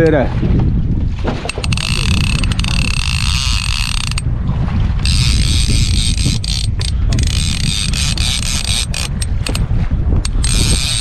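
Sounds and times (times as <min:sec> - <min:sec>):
fishing reel drag whirring: 0:01.4 - 0:04.3, 0:05.0 - 0:11.0.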